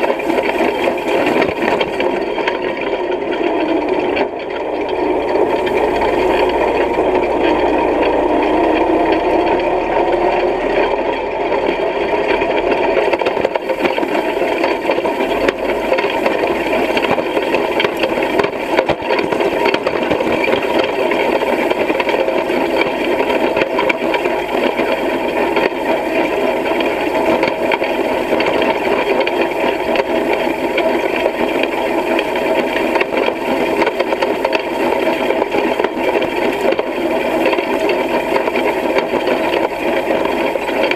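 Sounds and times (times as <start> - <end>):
hay rake rattling: 0.0 - 9.4, 13.0 - 40.9.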